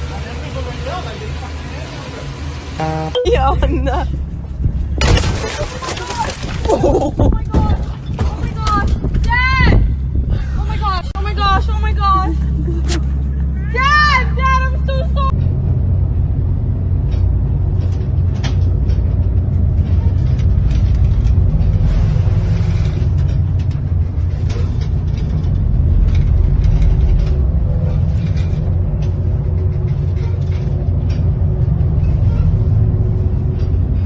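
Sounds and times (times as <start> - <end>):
loud low rumble: 2.6 - 34.0.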